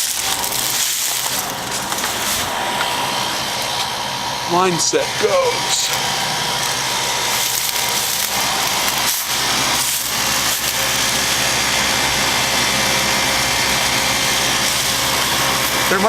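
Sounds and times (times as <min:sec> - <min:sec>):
compressor hum: 0:00.0 - 0:16.0
fan blowing air: 0:00.0 - 0:16.0.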